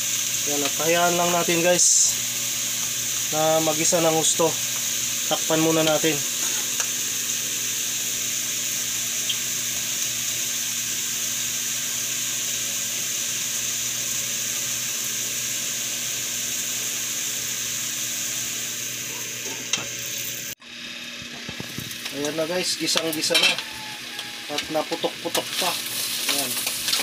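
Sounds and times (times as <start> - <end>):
meat sizzling in a wok: 0.0 - 27.0.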